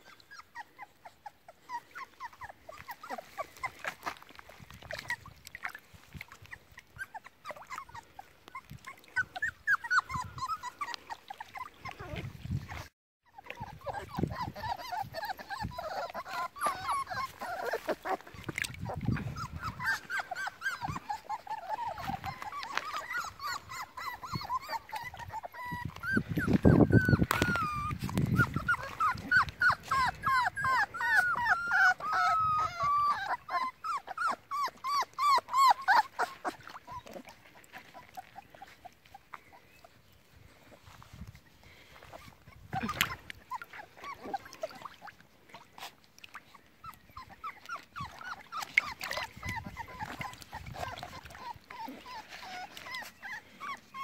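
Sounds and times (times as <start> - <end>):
puppies whimpering: 0.0 - 54.0.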